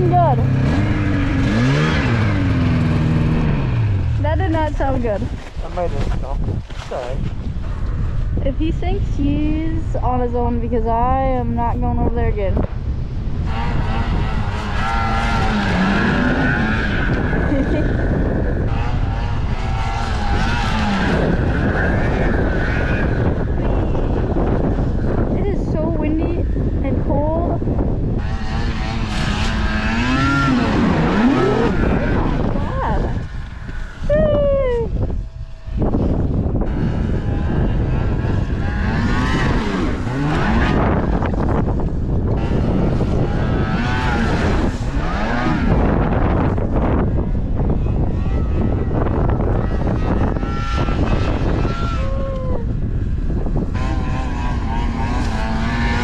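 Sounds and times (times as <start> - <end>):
distant snowmobile engine whine: 0.0 - 6.2, 7.5 - 56.0
wind noise on microphone: 0.0 - 56.0.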